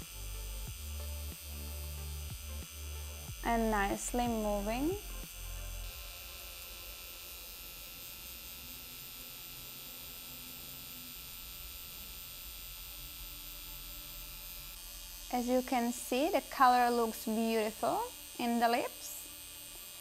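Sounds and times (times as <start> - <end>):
tattoo pen buzzing: 0.0 - 20.0.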